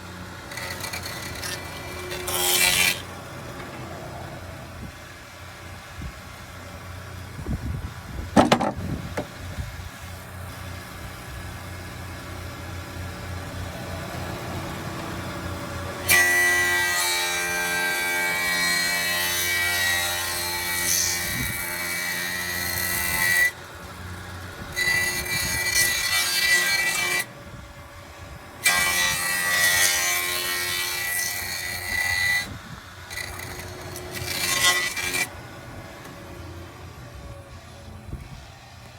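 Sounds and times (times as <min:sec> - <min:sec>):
planer cutters whining through wood: 0:00.0 - 0:38.9.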